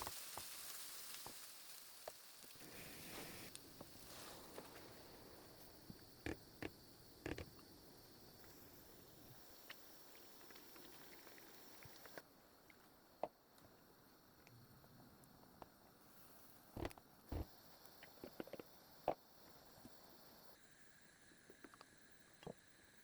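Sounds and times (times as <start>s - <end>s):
faint hiss: 0.0s - 23.0s.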